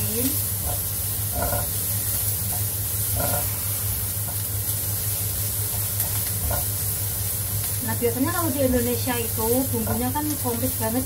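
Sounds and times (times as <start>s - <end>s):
spatula scraping wok: 0.0s - 11.0s
vegetables sizzling in oil: 0.0s - 11.0s.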